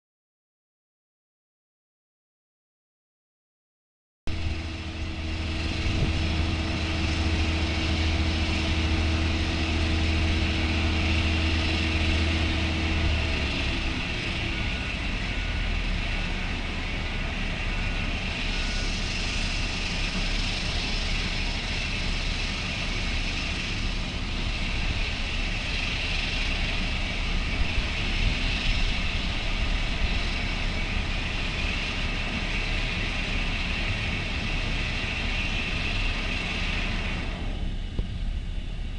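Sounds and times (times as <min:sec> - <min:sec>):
aircraft engines roaring: 0:04.3 - 0:38.9
low steady hum: 0:04.3 - 0:38.9.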